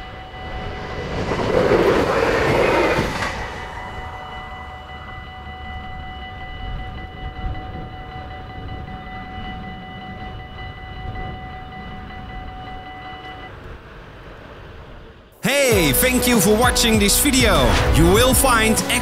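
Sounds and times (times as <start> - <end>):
crossing warning bells: 0.0 - 19.0
train passing at speed: 0.0 - 19.0.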